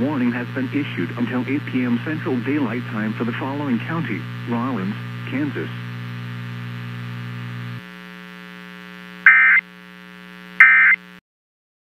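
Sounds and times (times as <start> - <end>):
electrical buzzing hum: 0.0 - 11.2.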